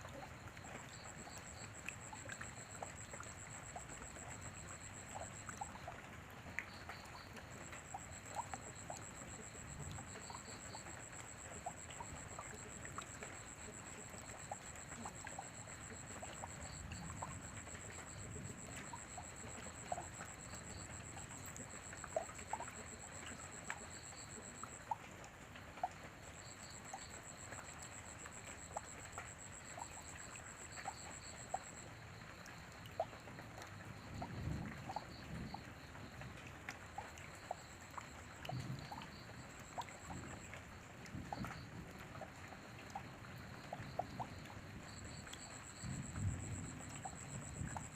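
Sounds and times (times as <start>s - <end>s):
drops and drips ticking: 0.0s - 47.9s
light rain hiss: 0.0s - 47.9s.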